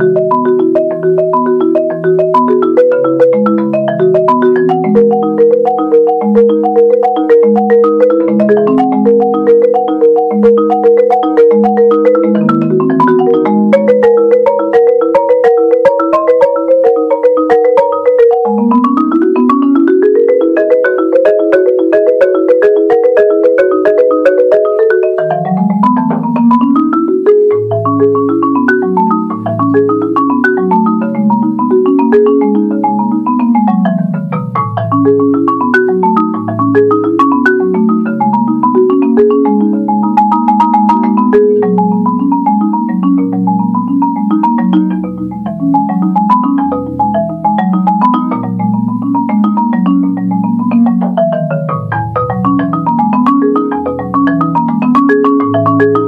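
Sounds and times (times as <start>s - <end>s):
marimba playing: 0.0s - 56.0s.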